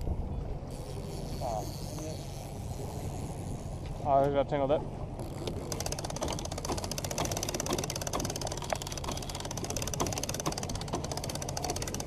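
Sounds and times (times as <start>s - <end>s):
fishing reel clicking: 0.7s - 4.2s, 5.2s - 12.0s.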